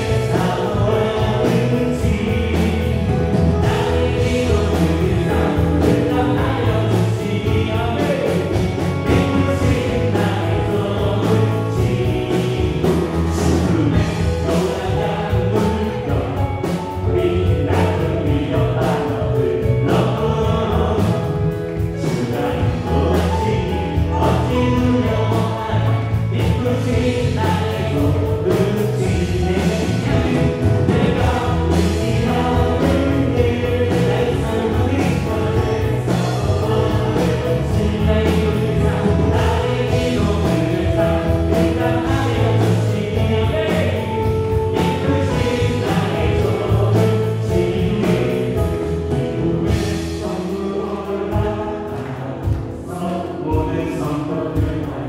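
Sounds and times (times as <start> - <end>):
live band playing gospel song: 0.0 - 55.0
voices singing along: 0.0 - 55.0.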